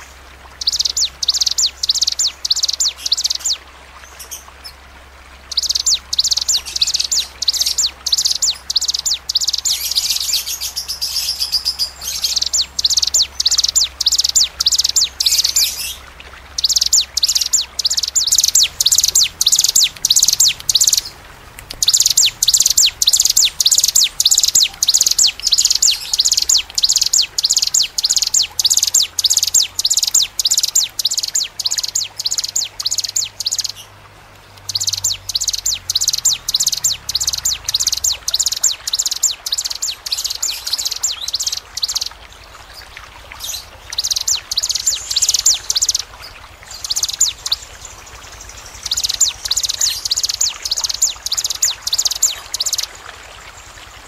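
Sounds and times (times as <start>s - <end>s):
small birds chirping rapidly: 0.0s - 54.0s.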